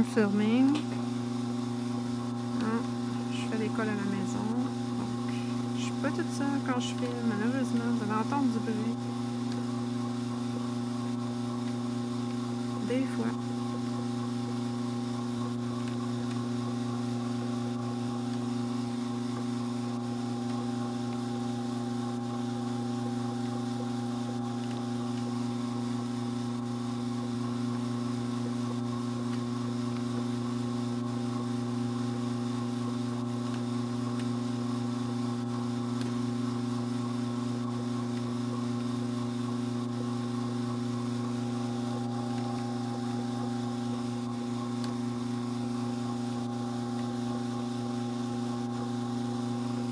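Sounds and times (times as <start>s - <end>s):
electric drum carder motor hum: 0.0s - 49.9s.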